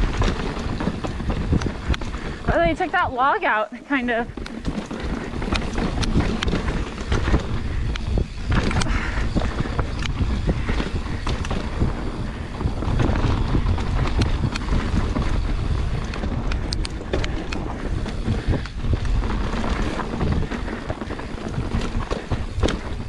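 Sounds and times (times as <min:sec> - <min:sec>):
bike clicks and rattles: 0:00.0 - 0:23.0
tyres rolling on dirt: 0:00.0 - 0:23.0
wind rushing over microphone: 0:00.0 - 0:23.0.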